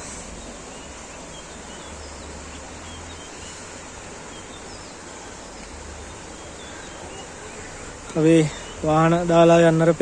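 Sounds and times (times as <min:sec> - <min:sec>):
outdoor rushing hiss: 0:00.0 - 0:10.0.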